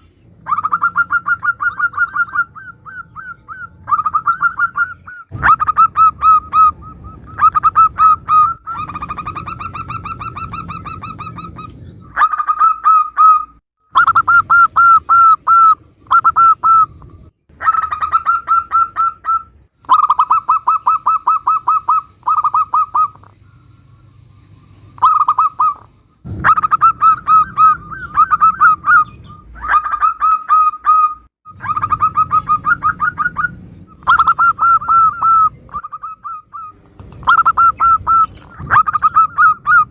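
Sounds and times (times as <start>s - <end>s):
doves cooing: 0.0s - 23.4s, 24.7s - 39.9s.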